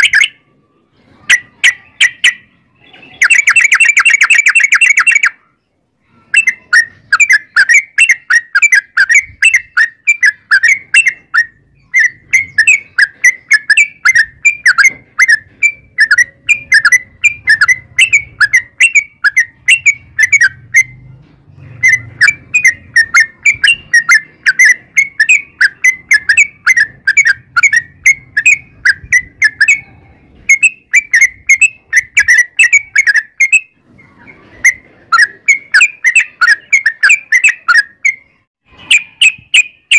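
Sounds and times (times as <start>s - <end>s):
bird singing rapid chatter: 0.0s - 39.9s.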